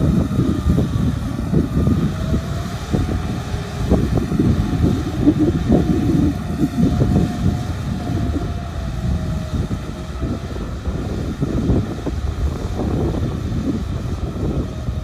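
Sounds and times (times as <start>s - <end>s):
faint wavering whine: 0.0s - 15.0s
rotary tiller churning mud: 0.0s - 15.0s
tractor diesel engine running: 0.0s - 15.0s.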